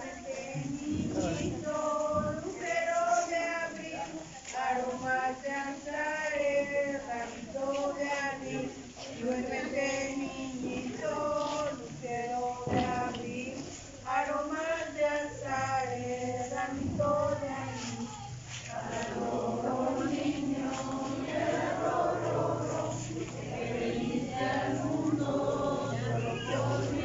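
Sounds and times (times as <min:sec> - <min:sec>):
group singing a lullaby: 0:00.0 - 0:27.0.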